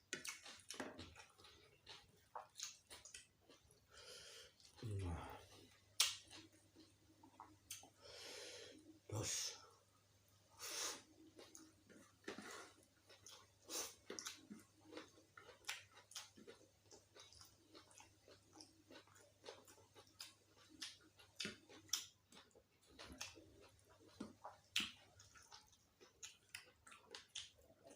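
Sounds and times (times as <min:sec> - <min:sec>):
person chewing food: 0:00.0 - 0:09.0, 0:09.9 - 0:27.9.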